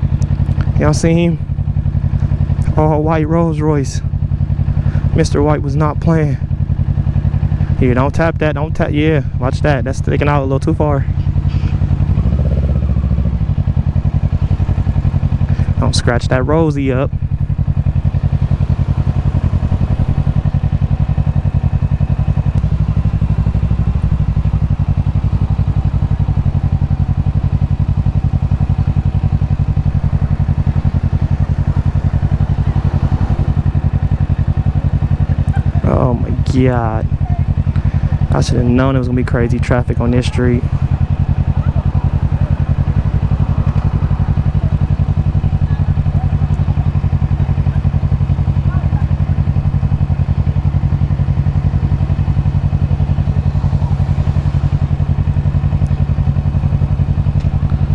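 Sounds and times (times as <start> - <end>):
motorcycle engine running at low revs: 0.0 - 57.9.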